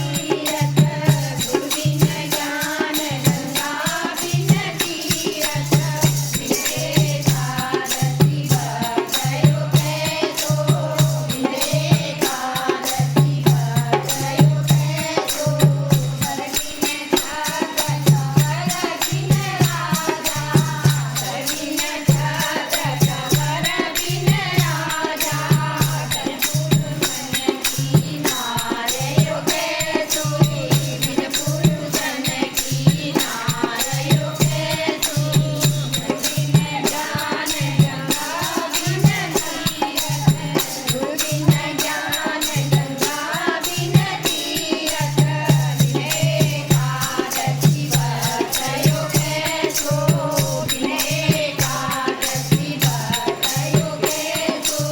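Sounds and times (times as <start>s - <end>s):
group singing devotional song: 0.0s - 54.9s
rattling jingling hand percussion: 0.0s - 54.9s.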